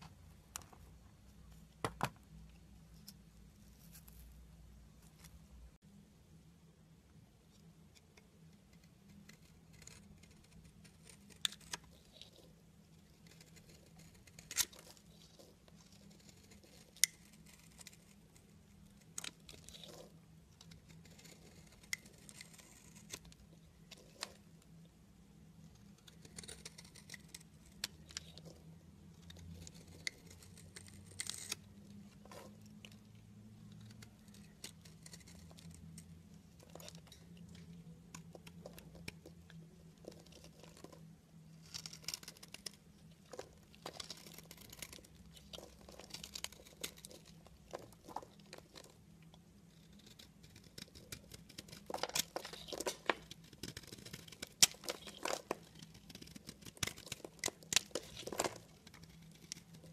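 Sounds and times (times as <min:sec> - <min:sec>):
knife scraping a bar of soap: 0:08.0 - 0:24.6, 0:25.6 - 0:33.0, 0:33.7 - 0:41.0, 0:41.6 - 0:49.0, 0:49.7 - 0:59.9.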